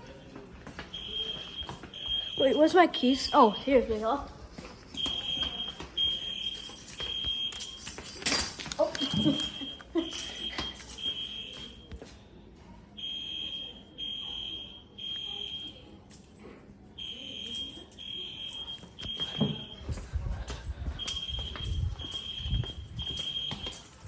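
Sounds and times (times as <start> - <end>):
fire alarm beeping: 0.0 - 4.3, 5.0 - 12.1, 13.0 - 16.0, 17.0 - 24.0.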